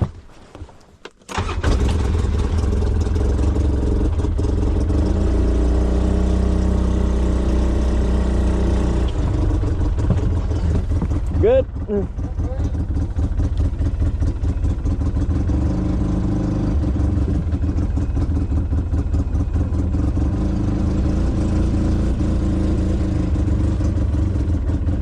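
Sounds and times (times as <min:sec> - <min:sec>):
vehicle engine droning: 0:01.3 - 0:25.0.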